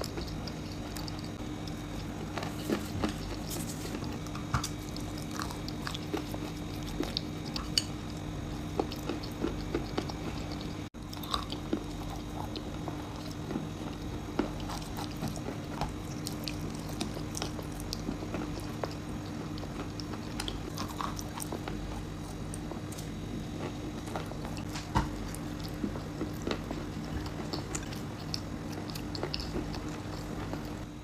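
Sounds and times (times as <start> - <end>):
chewing and crunching: 0.0 - 31.0
steady low hum: 0.0 - 31.0.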